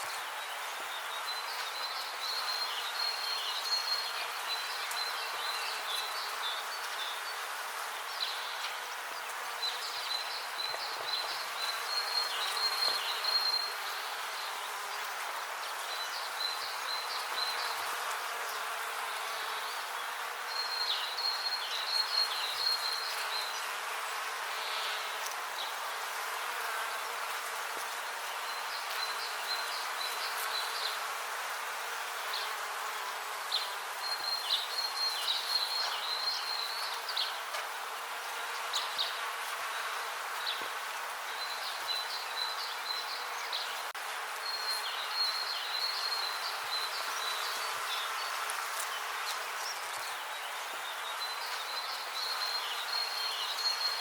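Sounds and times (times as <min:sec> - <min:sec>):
bees buzzing: 0:00.0 - 0:54.0.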